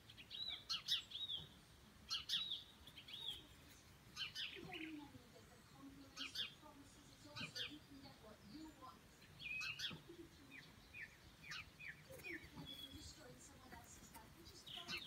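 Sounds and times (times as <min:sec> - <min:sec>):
faint bird chirps: 0:00.0 - 0:13.5.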